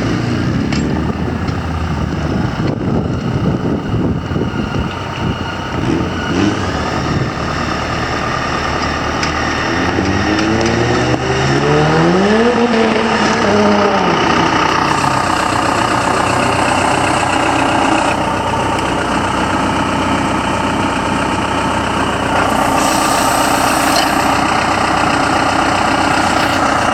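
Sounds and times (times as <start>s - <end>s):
tractor diesel engine revving: 0.0s - 26.9s.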